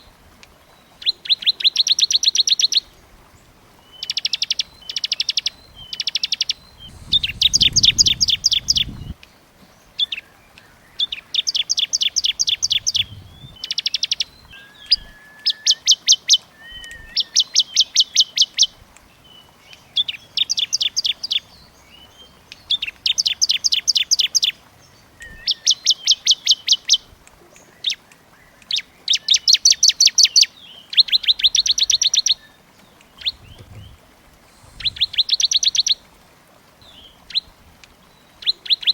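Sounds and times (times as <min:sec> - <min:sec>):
songbird chip notes: 0:03.8 - 0:09.2, 0:09.9 - 0:36.1.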